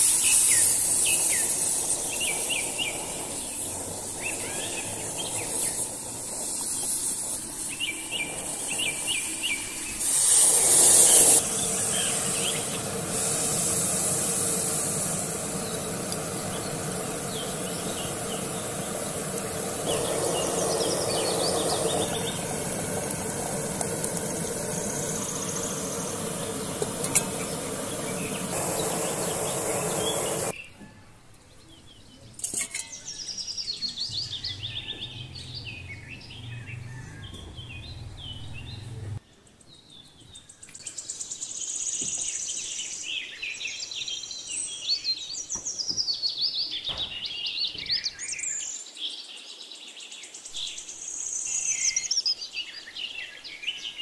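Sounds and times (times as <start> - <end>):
steady hiss: 0.0 - 30.6, 40.6 - 54.0
birds chirping and singing: 0.2 - 10.1, 11.0 - 54.0.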